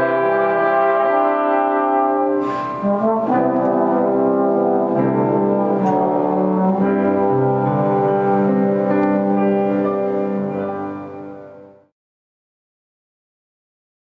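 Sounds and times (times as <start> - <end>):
trombone quartet playing chords: 0.0 - 11.4.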